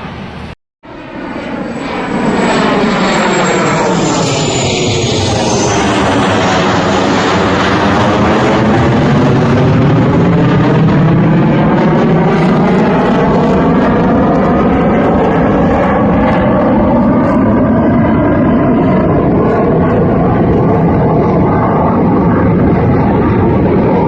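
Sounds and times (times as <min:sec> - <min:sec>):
jet aircraft roar passing overhead: 0:00.0 - 0:24.0.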